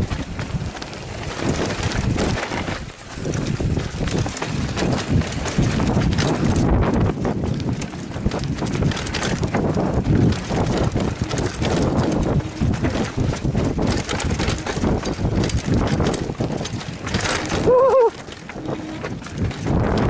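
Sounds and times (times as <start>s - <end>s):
bike rattling and knocking: 0.0s - 20.0s
tyre and wind noise: 0.0s - 20.0s.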